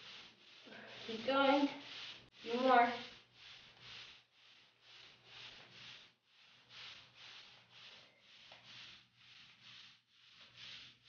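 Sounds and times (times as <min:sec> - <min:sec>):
cardboard scraping across hardwood floor: 0:00.0 - 0:11.0.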